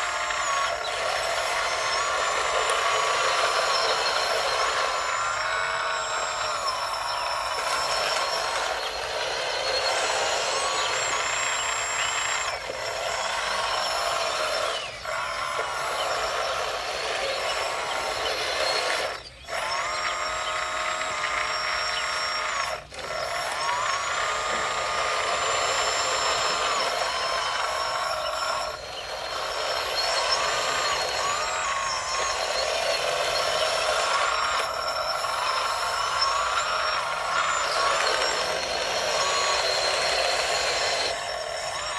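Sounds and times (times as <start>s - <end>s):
electric motors whining: 0.0s - 41.9s.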